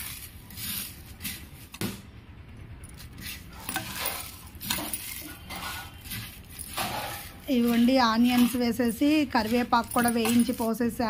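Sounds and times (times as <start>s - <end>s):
scraping and rustling in a pan: 0.0s - 1.7s, 3.1s - 10.8s.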